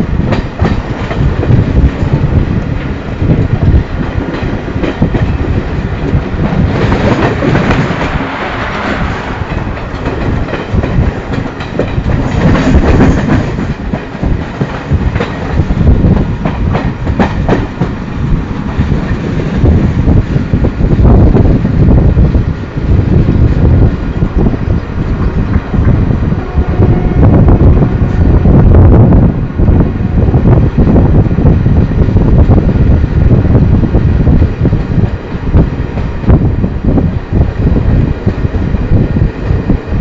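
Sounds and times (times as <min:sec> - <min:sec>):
clickety-clack of rail joints: 0:00.0 - 0:28.5, 0:30.4 - 0:40.0
train wheels rumbling: 0:00.0 - 0:40.0.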